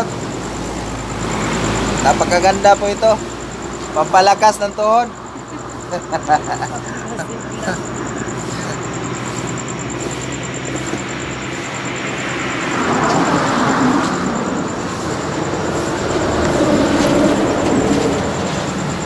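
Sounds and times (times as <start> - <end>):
vehicles driving past: 0.0 - 19.0.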